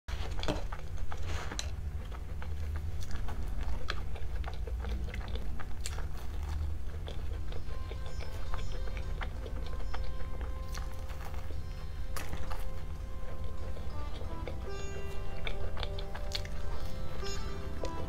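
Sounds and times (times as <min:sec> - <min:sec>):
biting and chewing pastry: 0:00.1 - 0:18.0
steady low hum: 0:00.1 - 0:18.0.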